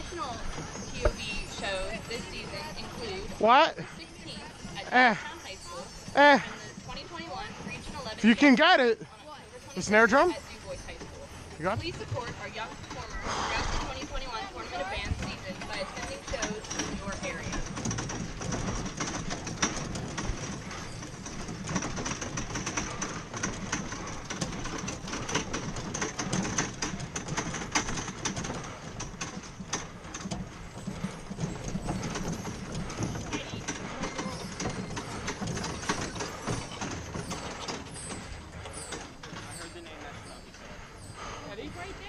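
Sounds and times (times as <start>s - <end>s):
carts and gear clattering: 0.0s - 42.0s.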